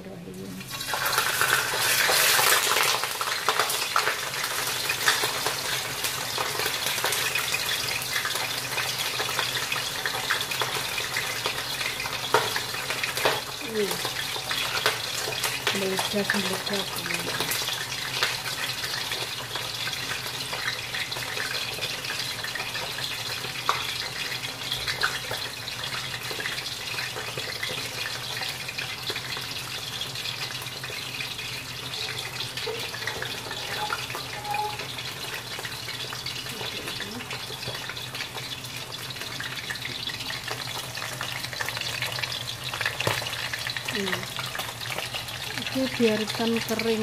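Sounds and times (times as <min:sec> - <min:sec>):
fish sizzling in hot oil: 0:00.6 - 0:47.0.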